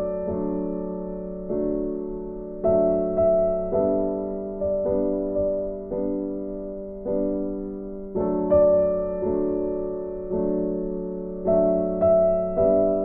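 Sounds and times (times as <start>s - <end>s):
slow soft piano chords: 0.0s - 13.0s.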